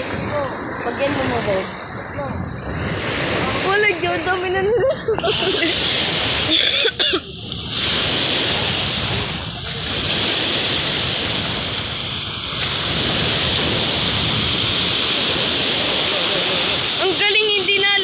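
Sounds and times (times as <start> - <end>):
waves washing onto shore: 0.0 - 18.0
wind buffeting microphone: 0.0 - 18.0.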